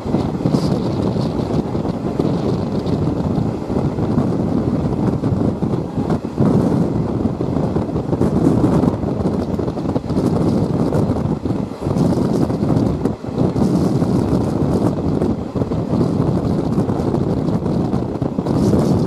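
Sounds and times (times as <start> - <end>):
moving train running noise: 0.0 - 19.0
wind buffeting microphone: 0.0 - 19.0.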